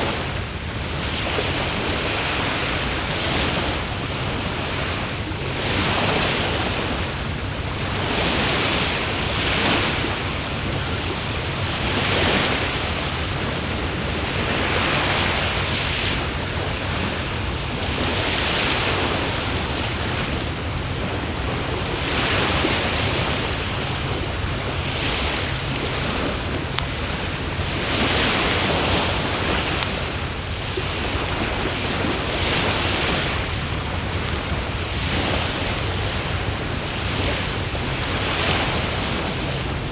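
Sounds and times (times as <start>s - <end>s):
wood fire crackles: 6.4s - 39.9s.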